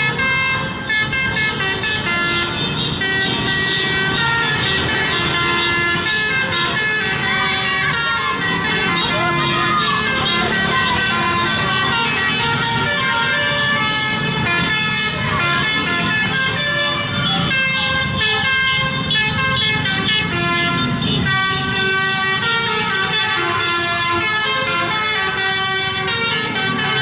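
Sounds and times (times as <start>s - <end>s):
musical horn melody: 0.0s - 27.0s.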